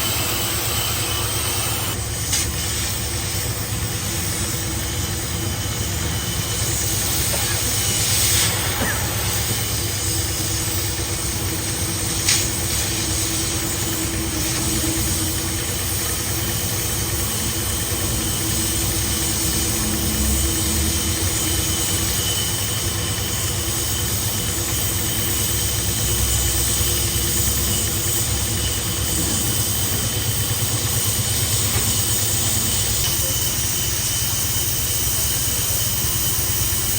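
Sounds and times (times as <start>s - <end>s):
boring machine machining steel: 0.0s - 36.9s.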